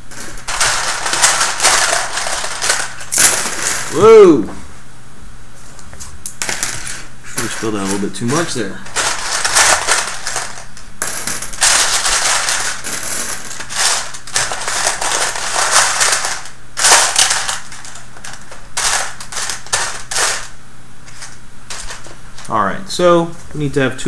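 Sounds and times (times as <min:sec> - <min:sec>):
plastic pieces clattering: 0:00.0 - 0:04.1, 0:06.3 - 0:22.6.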